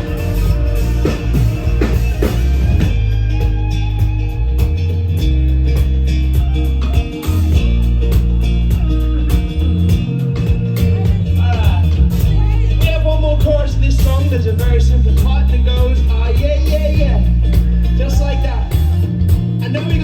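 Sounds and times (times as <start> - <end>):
live pop-rock band: 0.0 - 20.0.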